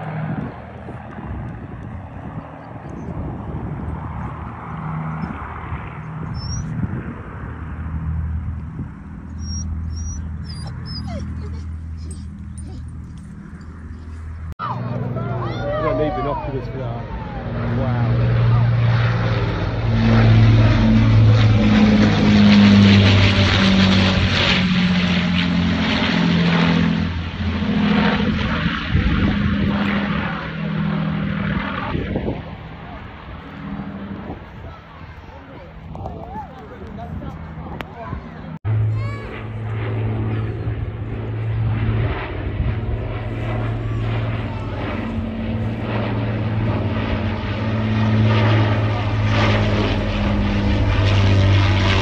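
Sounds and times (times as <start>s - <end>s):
propeller plane engines droning: 0.0s - 52.0s.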